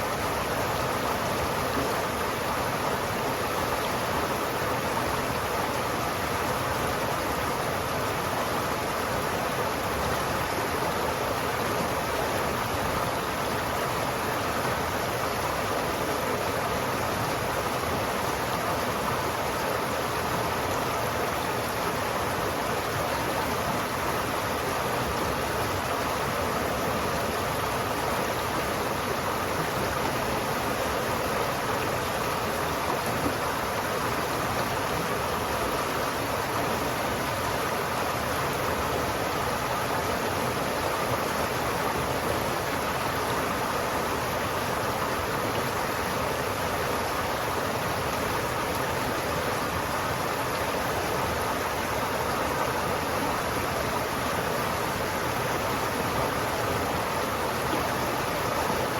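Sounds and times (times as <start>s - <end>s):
river water flowing over rocks: 0.0s - 58.9s.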